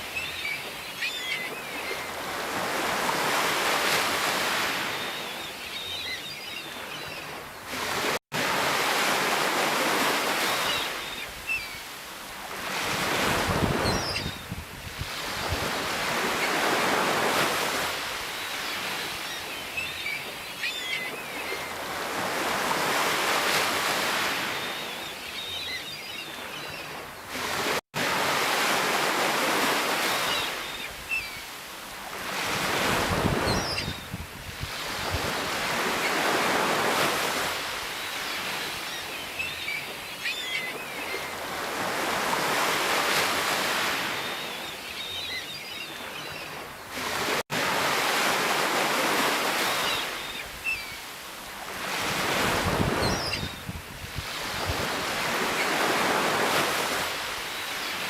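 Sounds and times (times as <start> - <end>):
sea waves washing onto shore: 0.0 - 0.8, 1.5 - 5.3, 7.3 - 20.4, 27.0 - 40.0, 40.6 - 44.7, 46.0 - 58.0.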